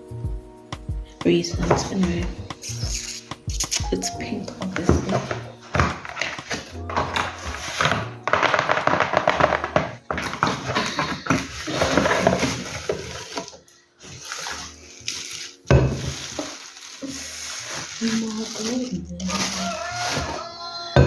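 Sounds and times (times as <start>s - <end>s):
background music: 0.0s - 21.0s
packaging rustling and crinkling: 1.5s - 20.5s.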